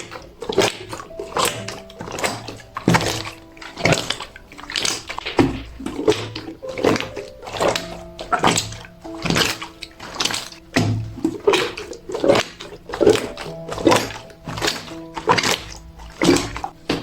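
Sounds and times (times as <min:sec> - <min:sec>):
slime squelching: 0:00.0 - 0:17.0.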